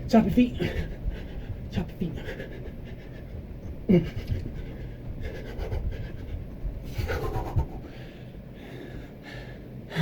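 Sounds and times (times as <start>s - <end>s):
person panting hard: 0.6s - 10.0s.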